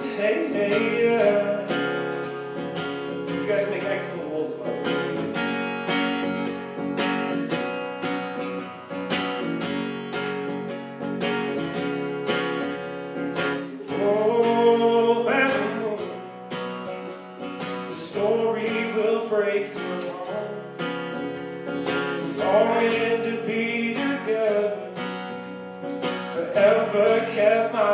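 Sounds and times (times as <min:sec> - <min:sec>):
acoustic guitar strummed: 0:00.0 - 0:27.9.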